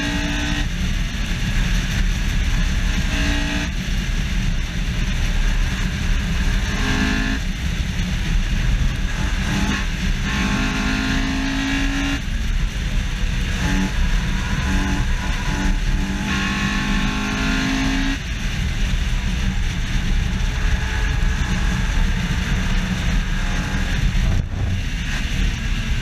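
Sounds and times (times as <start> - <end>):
car engine revving high: 0.0 - 26.0
wind and road roar: 0.0 - 26.0.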